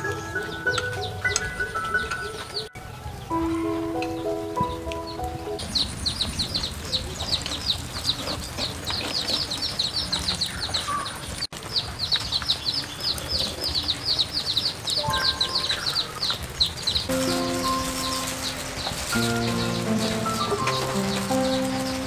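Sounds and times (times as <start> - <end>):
low outdoor background: 0.0 - 22.0
small birds chirping: 0.0 - 22.0.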